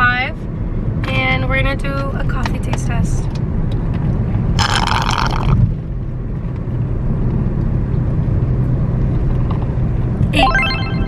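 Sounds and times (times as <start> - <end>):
car driving rumble inside cabin: 0.0 - 10.4.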